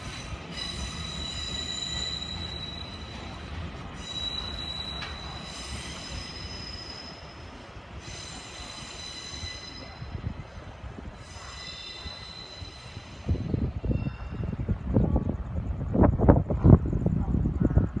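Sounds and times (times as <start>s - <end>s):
train wheels squealing: 0.0s - 14.8s
low train rumble: 0.0s - 18.0s.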